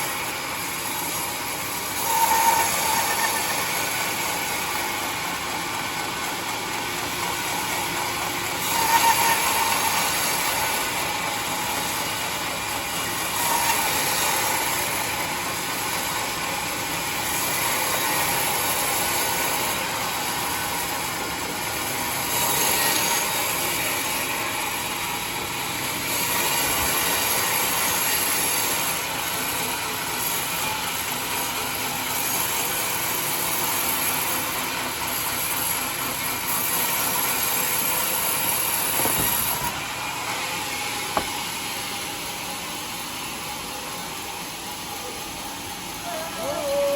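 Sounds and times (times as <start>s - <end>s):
band sawmill cutting log: 0.0s - 46.9s.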